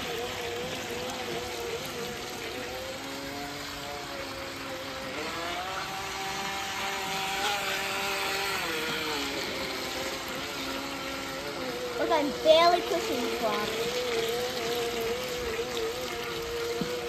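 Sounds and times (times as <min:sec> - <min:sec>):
remote-control boat motor whining: 0:00.0 - 0:17.0.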